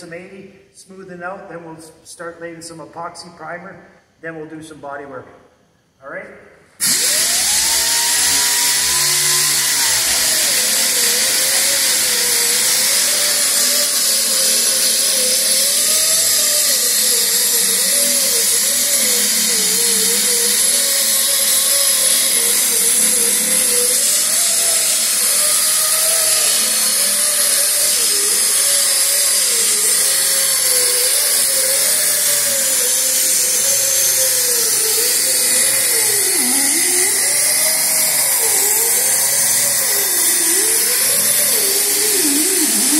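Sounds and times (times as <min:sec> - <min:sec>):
air sander grinding metal: 0:06.8 - 0:42.9.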